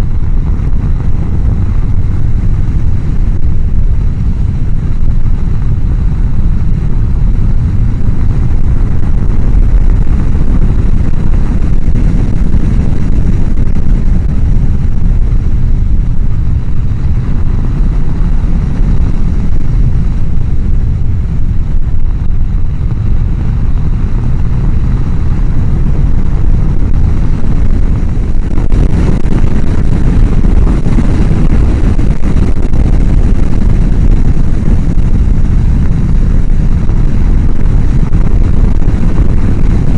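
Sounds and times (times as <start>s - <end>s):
wind rushing through helmet vent: 0.0s - 39.9s.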